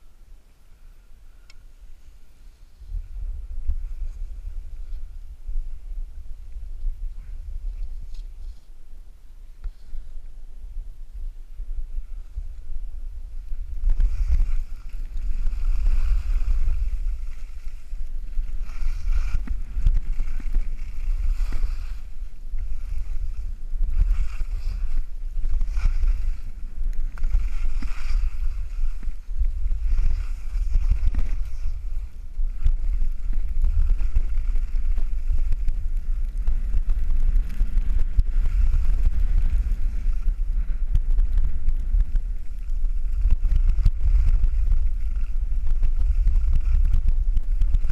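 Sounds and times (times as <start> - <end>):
wind rumbling on microphone: 0.0 - 47.9
skis scraping on snow: 2.0 - 10.2, 11.8 - 47.9.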